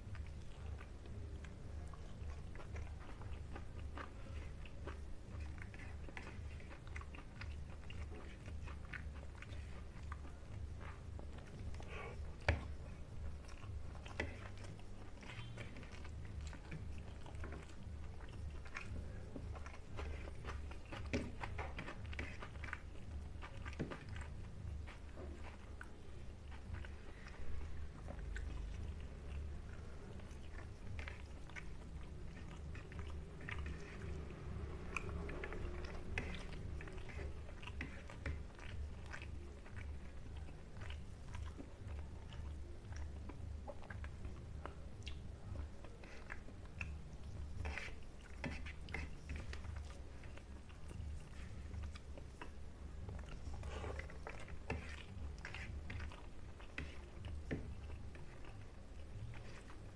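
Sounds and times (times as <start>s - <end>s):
chewing with crunches: 0.0s - 59.9s
fingers mixing rice on a plate: 0.0s - 59.9s
steady low hum: 0.0s - 59.9s.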